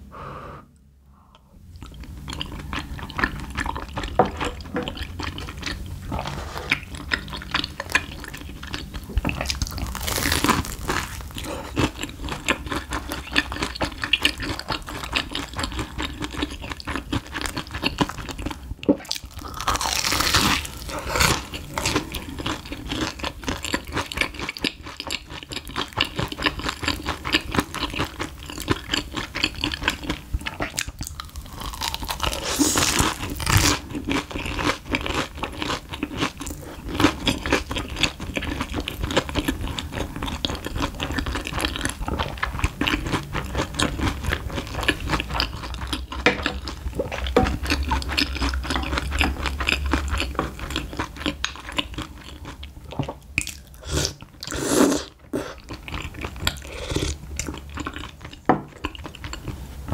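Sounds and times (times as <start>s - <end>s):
crunching and chewing food: 1.7s - 59.9s.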